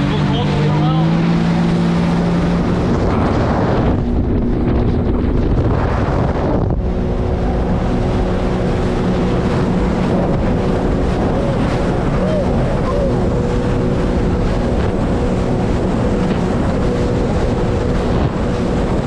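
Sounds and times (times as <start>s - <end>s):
boat engine running: 0.0s - 19.0s
rushing water: 0.0s - 19.0s
wind buffeting microphone: 0.0s - 19.0s.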